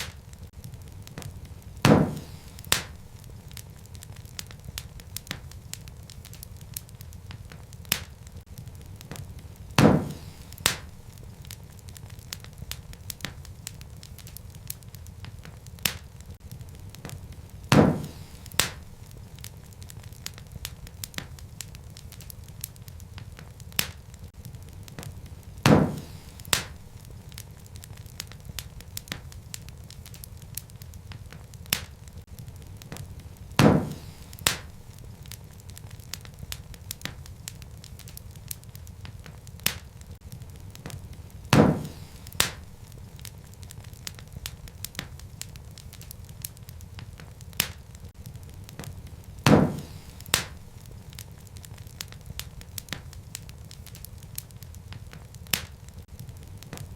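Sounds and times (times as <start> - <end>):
fire low rumble: 0.0 - 56.9
logs crackling: 0.0 - 56.9
sharp pops of fire: 0.0 - 56.9.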